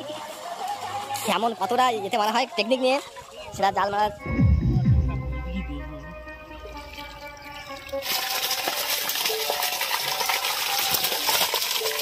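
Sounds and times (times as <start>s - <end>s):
pond water splashing: 0.0s - 4.1s, 5.2s - 12.0s.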